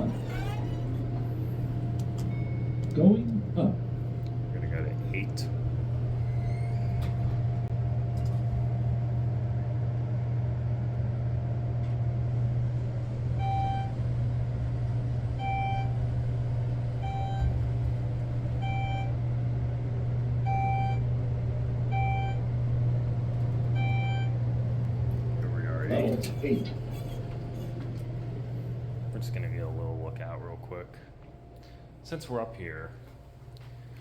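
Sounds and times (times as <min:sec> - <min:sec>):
elevator hum: 0:00.0 - 0:34.0.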